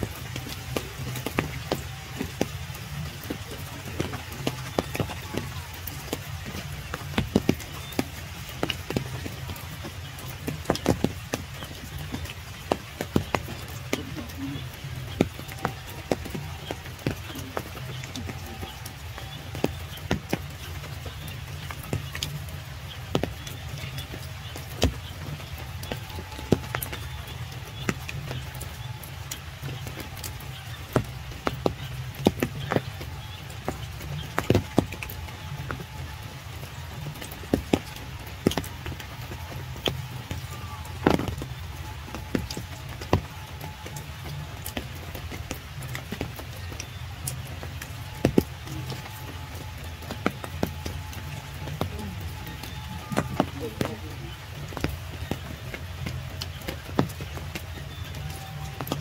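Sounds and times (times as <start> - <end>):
raindrops dripping: 0.0 - 59.0.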